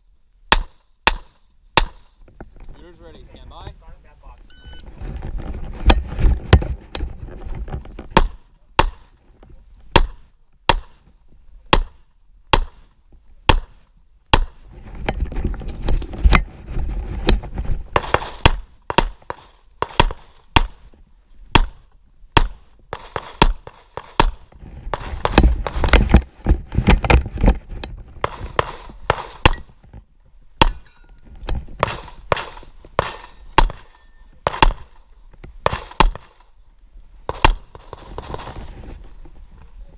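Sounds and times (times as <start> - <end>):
rustling: 1.3 - 12.1, 12.7 - 22.0, 22.6 - 39.9.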